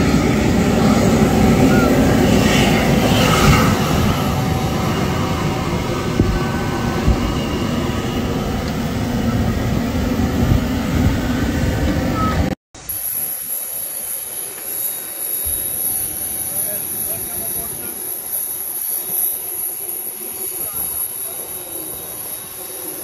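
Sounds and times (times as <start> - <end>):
jet engines roaring: 0.0 - 12.6, 13.8 - 23.0
high-pitched whine: 0.0 - 23.0.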